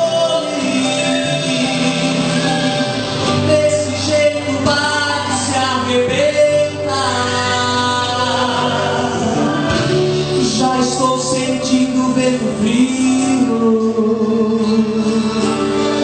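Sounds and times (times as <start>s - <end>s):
gospel song with singing voices: 0.0s - 16.0s.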